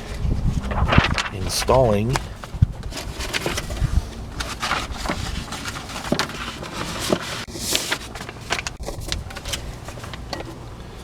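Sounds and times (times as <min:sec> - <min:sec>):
paper and packaging rustling: 0:00.5 - 0:10.6.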